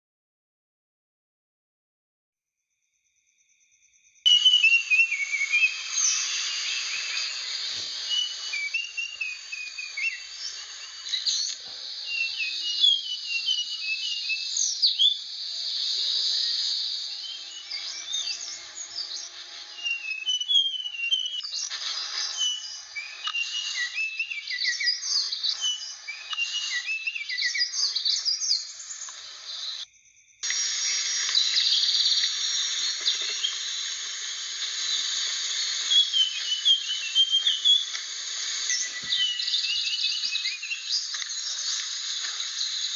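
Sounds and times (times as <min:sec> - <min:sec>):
bird singing whistled chirps: 0:04.3 - 0:29.8, 0:30.8 - 0:33.7, 0:34.8 - 0:42.9
steady high hiss: 0:04.3 - 0:42.9.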